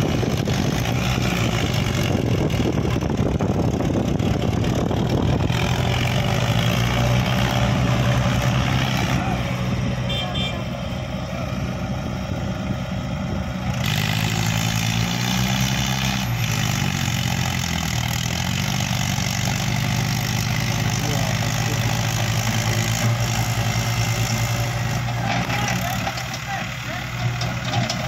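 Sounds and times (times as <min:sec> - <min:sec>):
diesel engines revving: 0:00.0 - 0:28.0.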